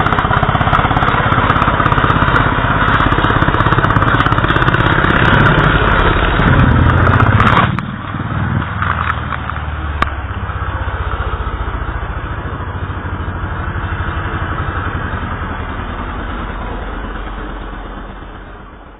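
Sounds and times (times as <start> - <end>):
low engine drone: 0.0 - 18.9
motorbike engine running hard: 0.0 - 18.9.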